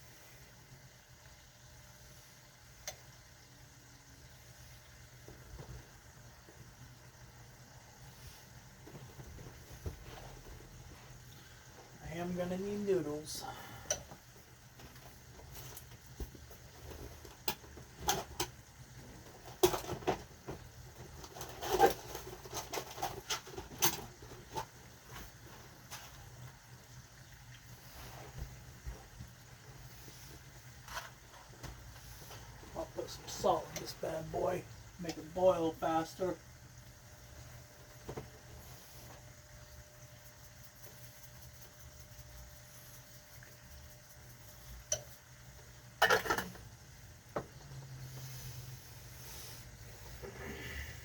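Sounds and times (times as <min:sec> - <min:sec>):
faint kitchen hum: 0:00.0 - 0:51.0
pot simmering hiss: 0:00.0 - 0:51.0.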